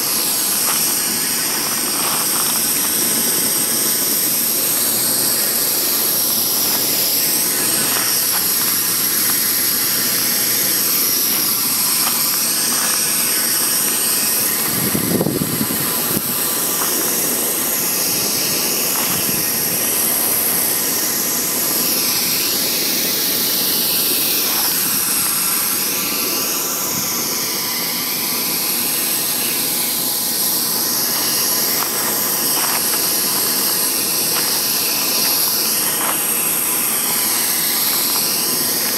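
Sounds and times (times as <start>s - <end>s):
weed torch hissing: 0.0s - 38.9s.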